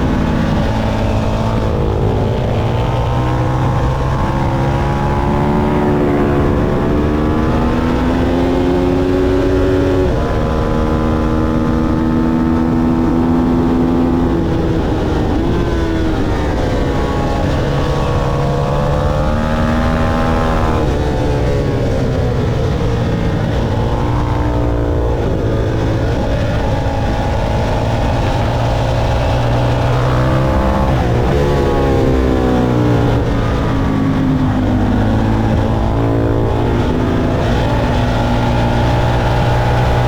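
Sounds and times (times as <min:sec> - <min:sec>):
motorcycle engine revving: 0:00.0 - 0:40.0
steady rushing noise: 0:00.0 - 0:40.0.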